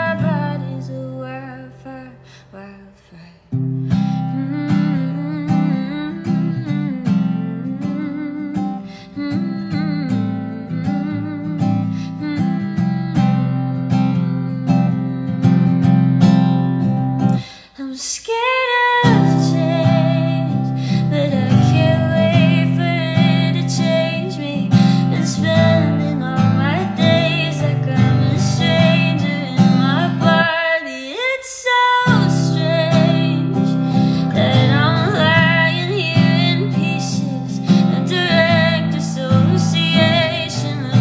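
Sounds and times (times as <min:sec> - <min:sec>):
acoustic guitar chords: 0:00.0 - 0:02.7, 0:03.4 - 0:17.7, 0:18.5 - 0:41.0
woman singing slowly: 0:00.0 - 0:03.5, 0:04.2 - 0:15.9, 0:17.7 - 0:41.0.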